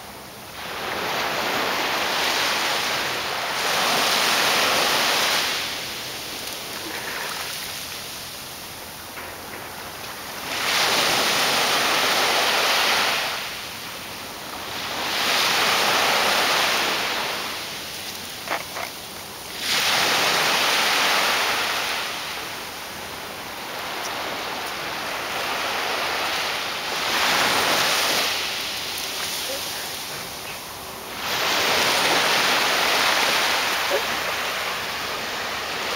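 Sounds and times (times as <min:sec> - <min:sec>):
small waves breaking on beach: 0:00.0 - 0:35.9.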